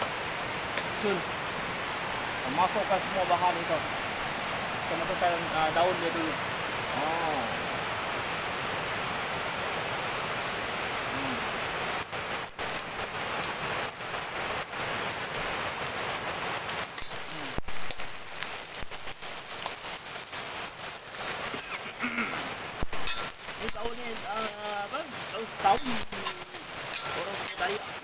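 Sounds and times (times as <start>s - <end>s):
leaves sizzling in hot oil: 0.0s - 28.0s.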